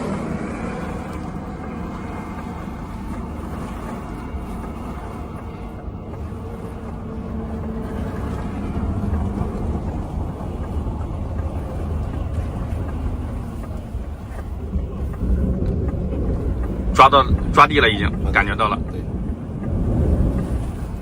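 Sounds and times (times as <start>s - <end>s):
choppy water: 0.0s - 21.0s
faint hum: 0.0s - 21.0s
wind: 0.0s - 21.0s.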